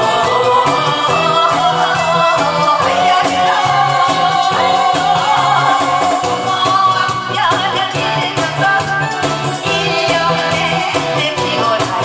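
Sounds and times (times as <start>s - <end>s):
backing track with pulsing bass: 0.0s - 12.0s
woman singing into a microphone: 0.0s - 12.0s.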